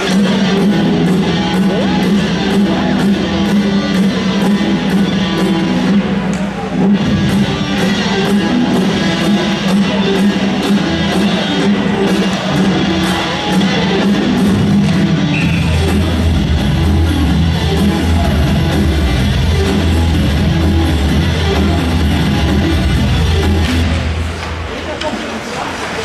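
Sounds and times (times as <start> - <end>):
rock music over sound system: 0.0 - 24.0.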